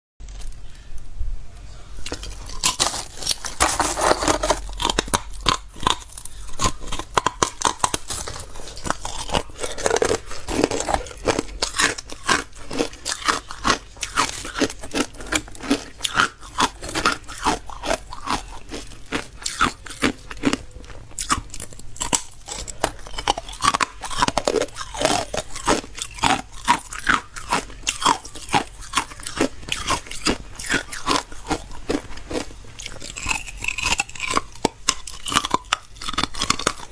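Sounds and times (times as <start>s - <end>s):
crunching ice between teeth: 2.0s - 36.9s.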